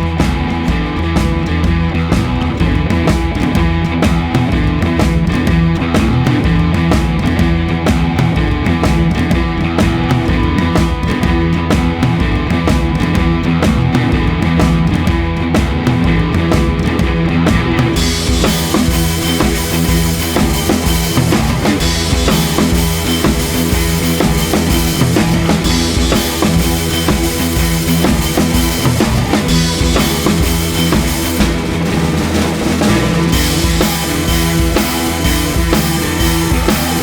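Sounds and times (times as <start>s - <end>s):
rock music with drum beat: 0.0s - 37.0s.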